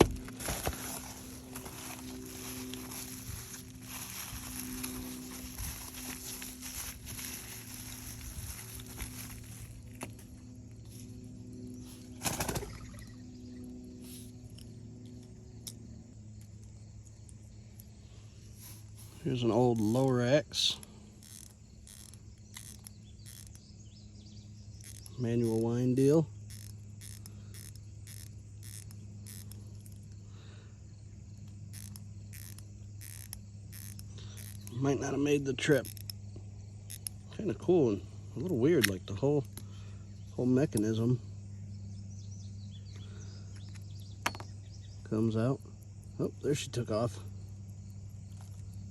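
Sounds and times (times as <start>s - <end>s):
insects chirping: 0.0s - 48.9s
steady low hum: 0.0s - 48.9s.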